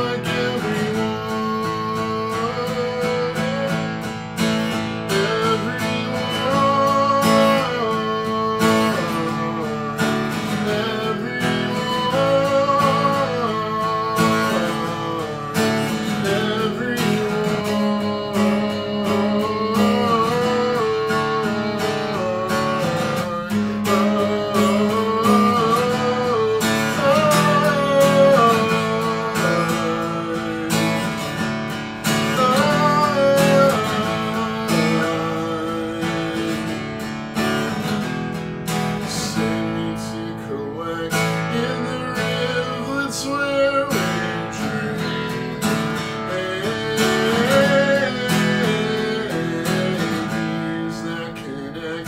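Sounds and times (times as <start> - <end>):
acoustic guitar strumming: 0.0 - 52.0
man singing: 0.0 - 52.0.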